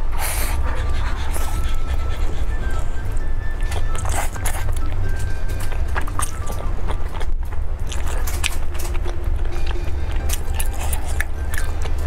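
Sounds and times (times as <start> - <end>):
biting and chewing noodles: 0.0 - 12.0
steady low hum: 0.0 - 12.0.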